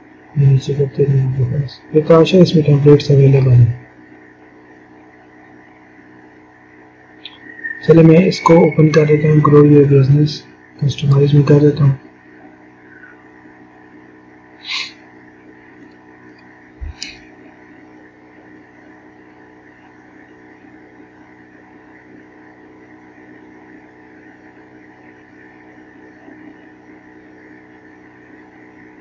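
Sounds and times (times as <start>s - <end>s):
faint mains hum: 0.0s - 29.0s.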